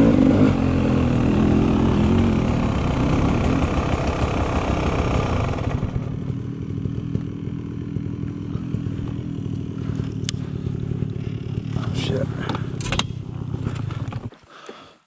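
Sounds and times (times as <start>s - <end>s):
motorcycle engine revving and idling: 0.0s - 14.4s.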